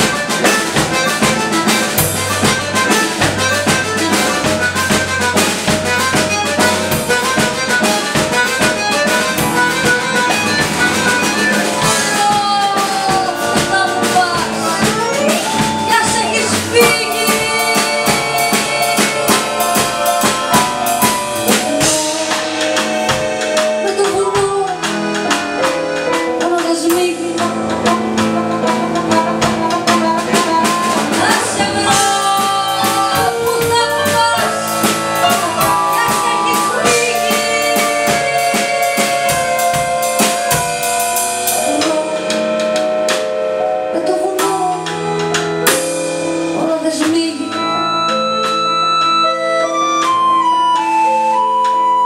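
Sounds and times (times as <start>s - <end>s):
woman singing: 0.0s - 25.4s, 26.1s - 42.9s, 43.9s - 45.3s, 46.6s - 48.2s
accordion: 0.0s - 52.0s
drum kit: 0.0s - 52.0s
keyboard chords: 0.0s - 52.0s.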